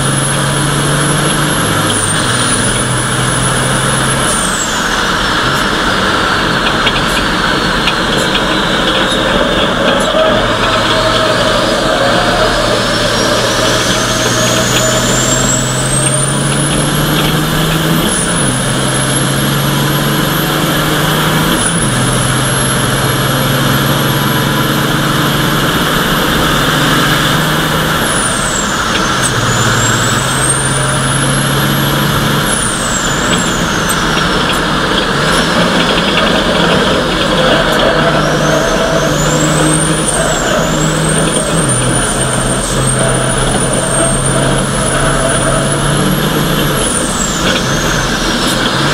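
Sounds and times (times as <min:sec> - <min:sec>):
diesel engine accelerating: 0:00.0 - 0:48.9.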